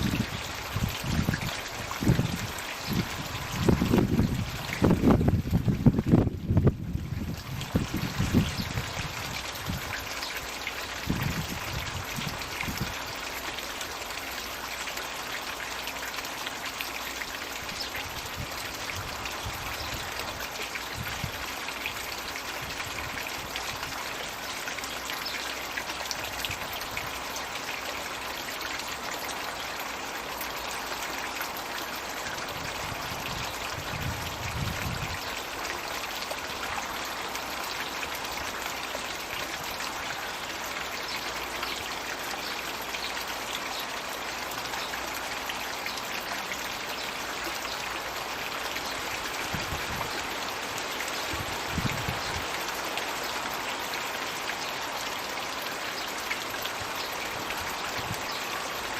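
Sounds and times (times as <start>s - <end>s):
water pouring and splashing: 0.0s - 58.9s.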